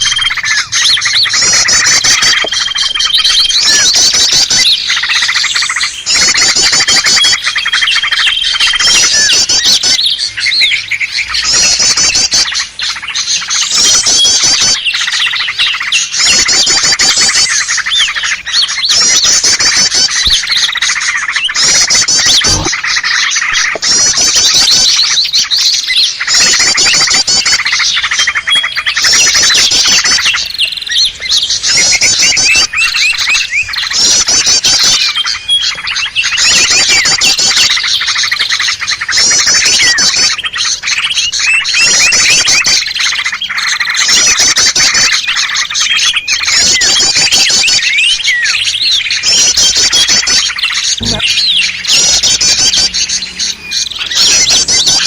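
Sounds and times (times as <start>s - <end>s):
high buzzy bird trill: 0.0s - 55.0s
songbirds chattering: 0.0s - 55.0s.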